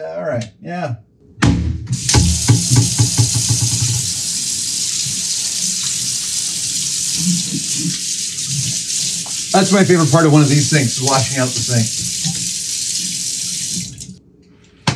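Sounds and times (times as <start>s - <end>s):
water splashing into steel sink: 1.9s - 14.2s.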